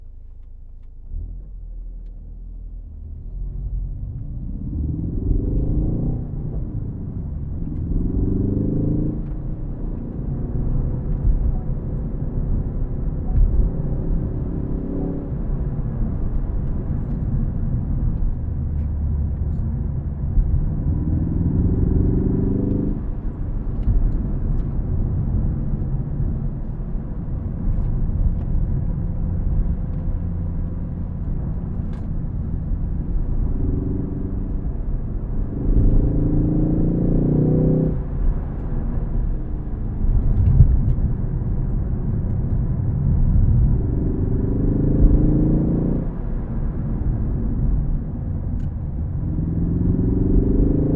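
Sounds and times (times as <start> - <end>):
car engine accelerating: 0.0 - 50.9
road and tyre rumble: 0.0 - 50.9.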